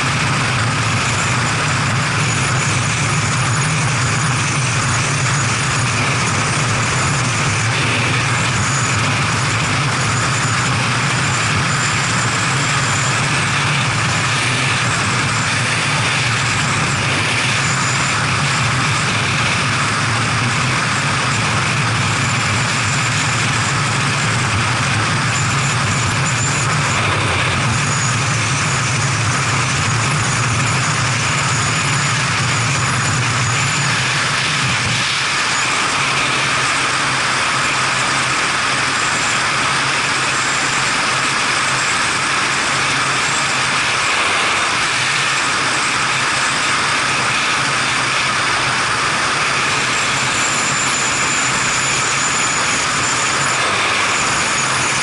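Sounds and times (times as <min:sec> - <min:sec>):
motorcycle engine drone: 0:00.0 - 0:55.0
wind rush: 0:00.0 - 0:55.0.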